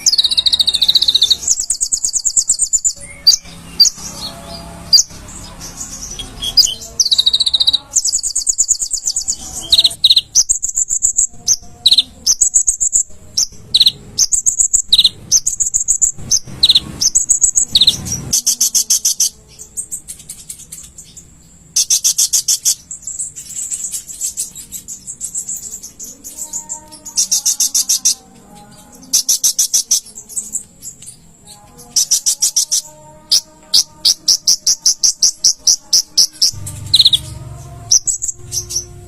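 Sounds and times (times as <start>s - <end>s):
bird trilling sharp chips: 0.0s - 19.3s, 21.8s - 28.2s, 31.8s - 37.3s.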